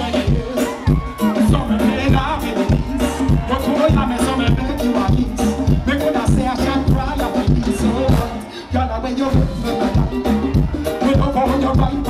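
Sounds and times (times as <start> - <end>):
live band music: 0.0 - 12.0
person singing into a microphone: 0.0 - 12.0.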